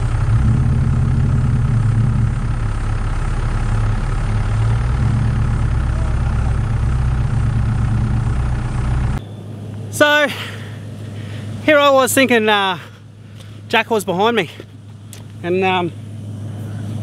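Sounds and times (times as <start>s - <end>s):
engine idling low hum: 0.0s - 17.0s.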